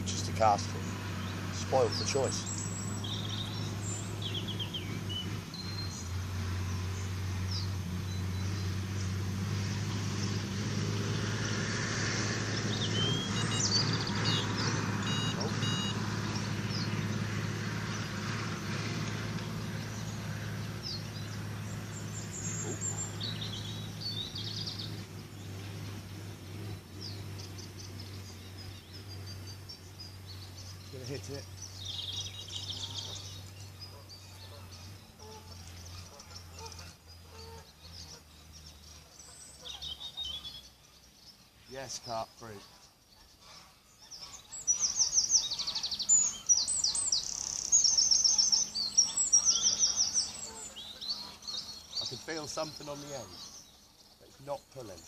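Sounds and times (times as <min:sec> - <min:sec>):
small birds chirping: 0:00.0 - 0:55.0
songbird singing: 0:00.0 - 0:55.0.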